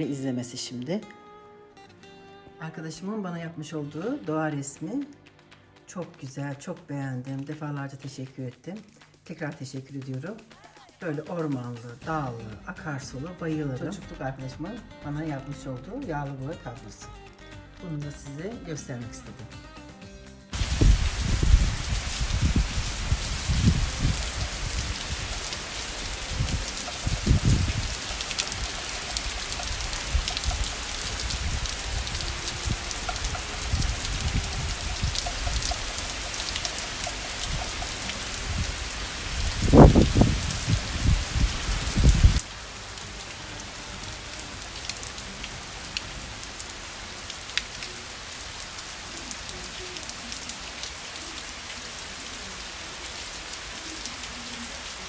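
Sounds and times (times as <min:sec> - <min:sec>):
rain falling: 0:03.9 - 0:16.4, 0:20.5 - 0:55.0.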